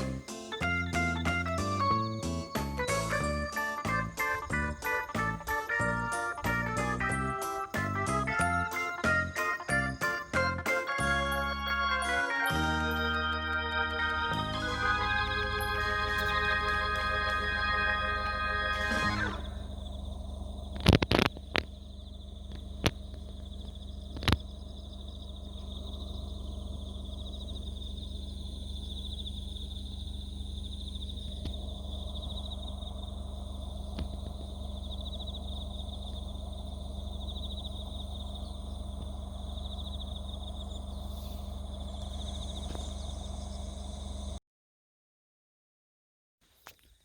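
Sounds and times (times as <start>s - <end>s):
insects trilling: 0.0s - 11.7s, 14.4s - 44.4s.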